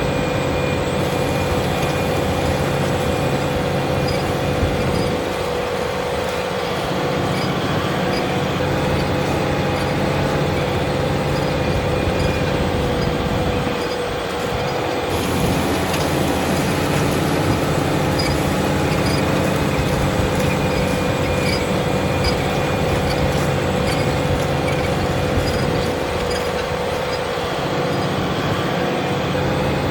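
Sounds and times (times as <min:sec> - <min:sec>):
constant whine: 0:00.0 - 0:29.9
tractor engine under load: 0:00.0 - 0:29.9.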